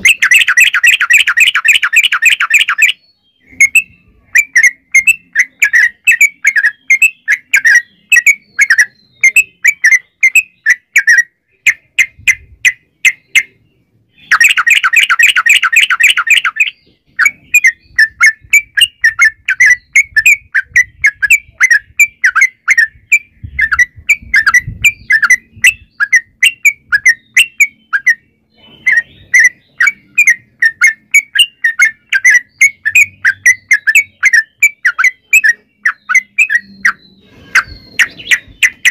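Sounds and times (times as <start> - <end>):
bulbul chirping and rattling: 0.0 - 13.6, 14.2 - 38.9.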